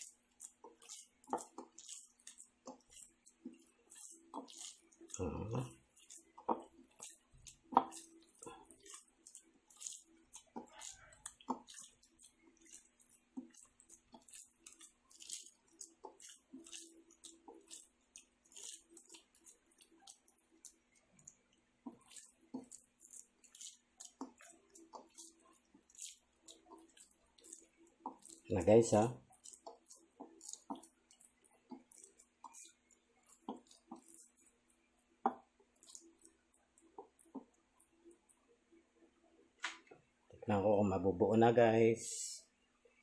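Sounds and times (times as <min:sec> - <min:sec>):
hand kneading wet meat: 0:00.0 - 0:41.5.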